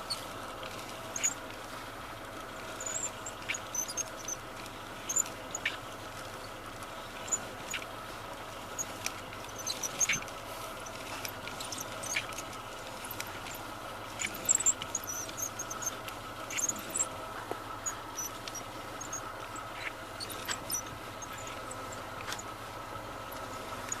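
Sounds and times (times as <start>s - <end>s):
steady hum: 0.0s - 24.0s
steering squeaking: 0.0s - 24.0s.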